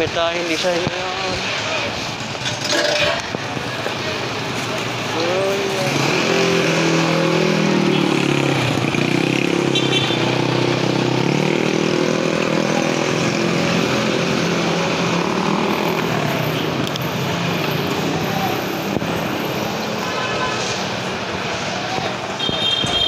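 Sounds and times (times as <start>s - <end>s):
street traffic hum: 0.0s - 23.0s.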